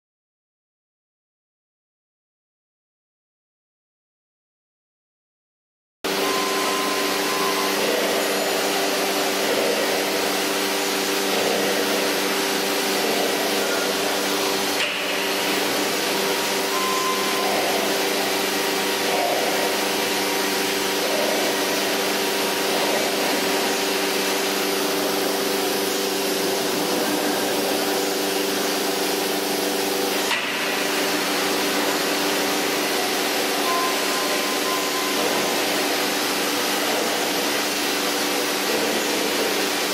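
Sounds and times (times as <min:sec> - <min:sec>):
drilling machine humming and hissing: 0:06.1 - 0:39.9.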